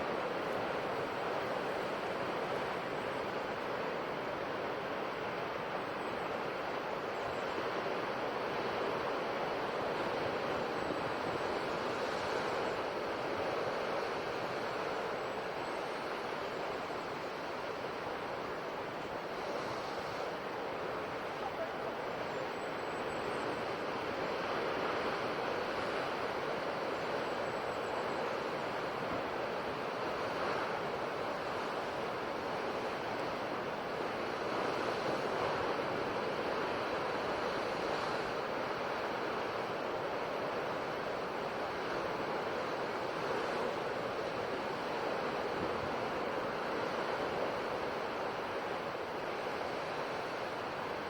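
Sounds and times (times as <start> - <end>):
ocean waves washing onto shore: 0.0 - 51.0.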